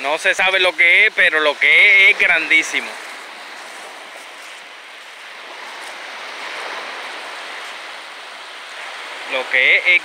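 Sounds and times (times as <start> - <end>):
small waves washing up beach: 0.0 - 10.0.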